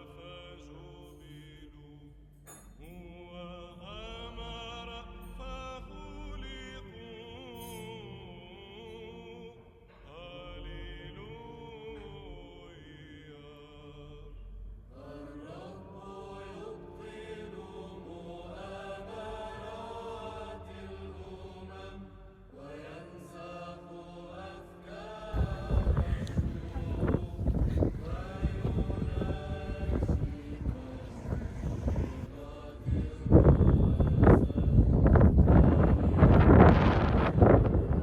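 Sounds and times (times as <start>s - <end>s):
slow chanted vocal music: 0.0s - 38.0s.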